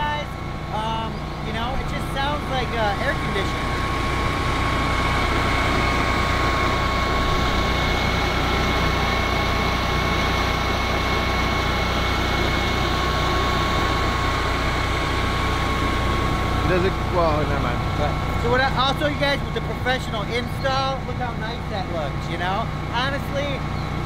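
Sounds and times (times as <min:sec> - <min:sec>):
faint steady whine: 0:00.0 - 0:24.0
generator humming: 0:00.0 - 0:24.0.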